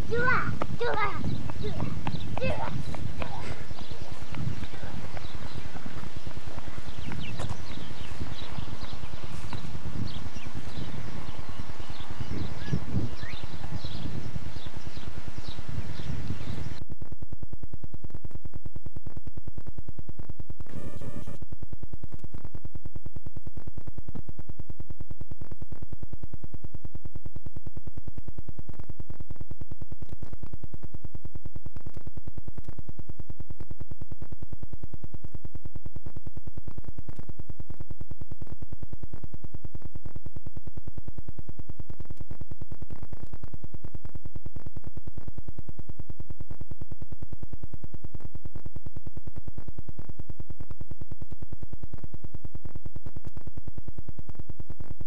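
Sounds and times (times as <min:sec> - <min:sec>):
electrical buzz: 0:00.0 - 0:55.0
low hum: 0:00.0 - 0:55.0.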